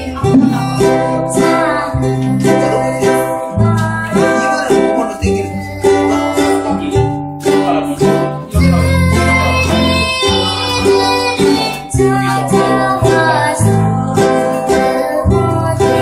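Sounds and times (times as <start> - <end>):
acoustic guitar: 0.0 - 16.0
person singing: 0.0 - 16.0
ukulele: 0.0 - 16.0.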